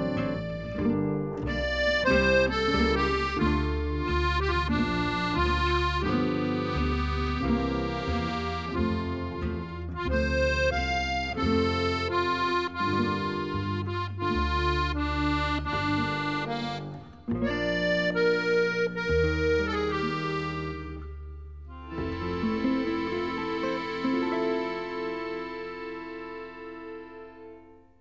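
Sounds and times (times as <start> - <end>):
instrumental background music: 0.0 - 28.0.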